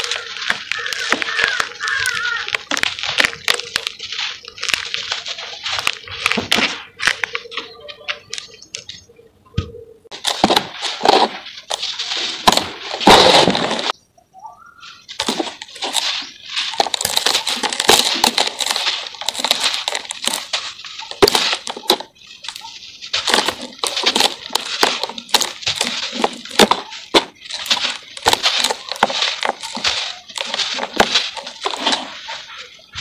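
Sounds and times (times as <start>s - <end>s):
cement crumbling by hand: 0.0s - 7.4s, 10.1s - 14.0s, 15.1s - 33.0s.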